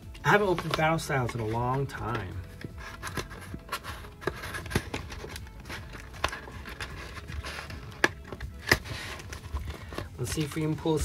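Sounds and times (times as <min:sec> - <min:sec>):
foil packs rustling: 0:00.0 - 0:11.0.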